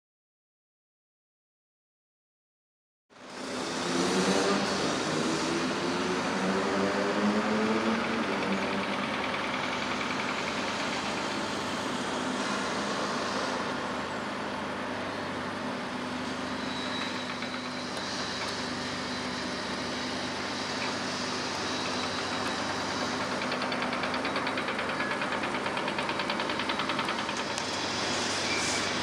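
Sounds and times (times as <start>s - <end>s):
construction site noise: 3.1s - 29.0s
diesel engine hum: 3.1s - 29.0s.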